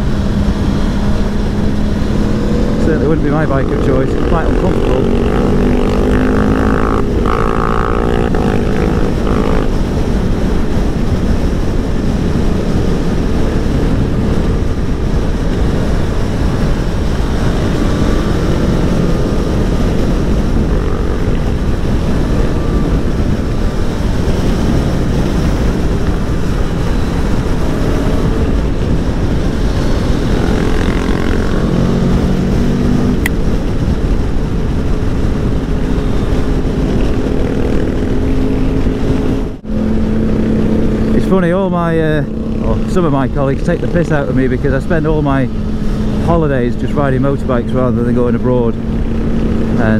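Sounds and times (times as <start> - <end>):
motorcycle engine at speed: 0.0 - 49.9
wind rush on microphone: 0.0 - 49.9.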